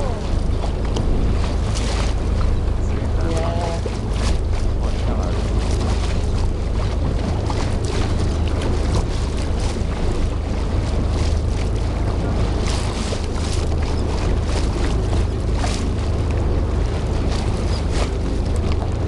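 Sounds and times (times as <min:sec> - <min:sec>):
boat engine rumbling: 0:00.0 - 0:19.0
water splashing against hull: 0:00.0 - 0:19.0
wind on microphone: 0:00.0 - 0:19.0.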